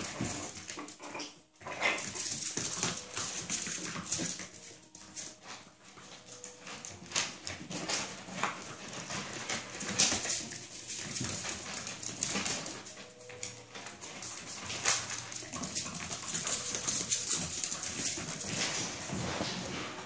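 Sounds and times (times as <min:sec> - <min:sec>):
paws pattering on hard floor: 0:00.0 - 0:20.0.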